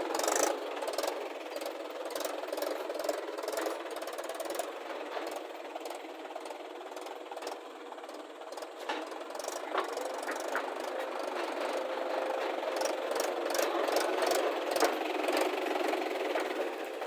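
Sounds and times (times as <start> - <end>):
diesel engine clattering: 0.0 - 17.0.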